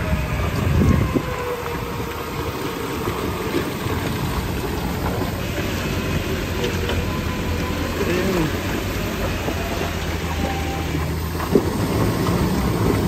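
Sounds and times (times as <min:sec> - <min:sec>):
car engine running under load: 0:00.0 - 0:13.0.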